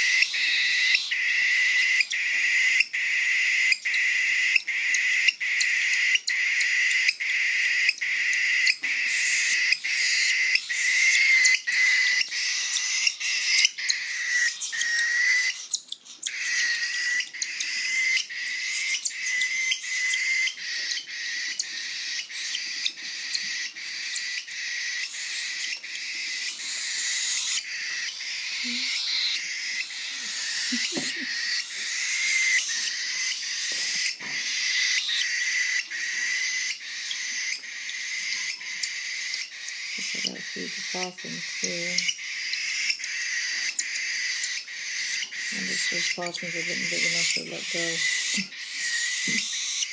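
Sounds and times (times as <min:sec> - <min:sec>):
baby birds begging calls: 0:00.0 - 0:49.9.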